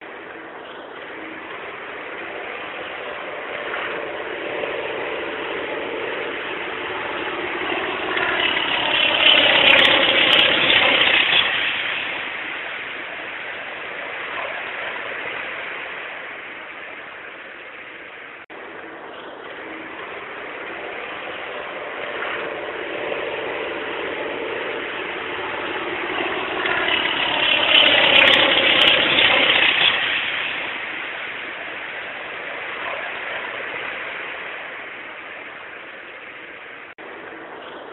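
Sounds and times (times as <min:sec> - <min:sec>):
propeller aeroplane flying past: 0:00.0 - 0:37.9.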